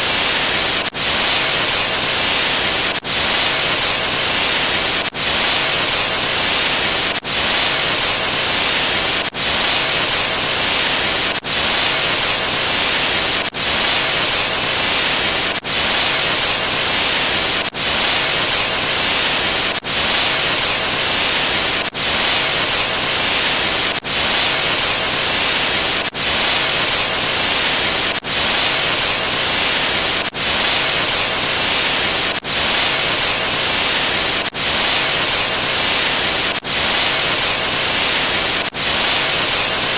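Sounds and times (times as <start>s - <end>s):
loud static noise: 0.0s - 39.9s.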